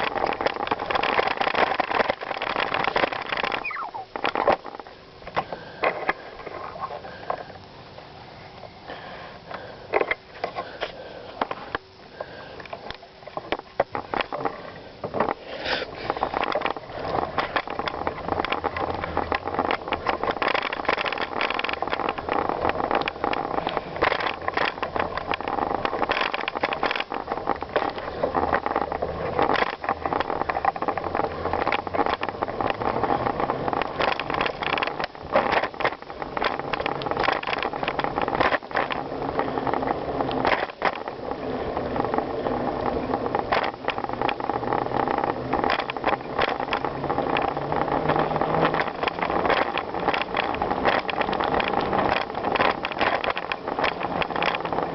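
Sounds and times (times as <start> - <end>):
bike knocking and rattling: 0.0 - 8.1, 8.9 - 54.9
bicycle tyres on rough trail: 0.0 - 54.9.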